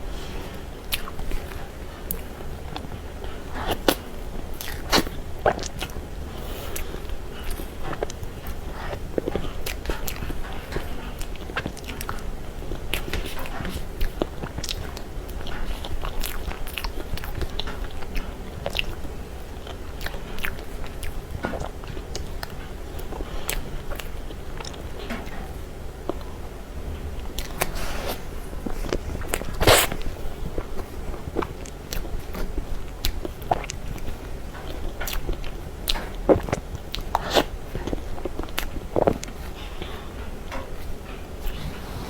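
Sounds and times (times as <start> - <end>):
person chewing soft cake: 0.0 - 42.0.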